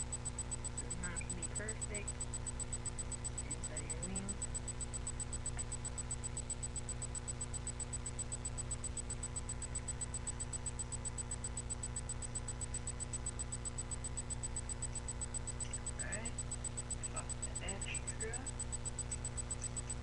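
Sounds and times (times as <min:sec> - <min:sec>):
electrical hum and hiss: 0:00.0 - 0:20.0
faint high-pitched pulsing whine: 0:00.0 - 0:20.0.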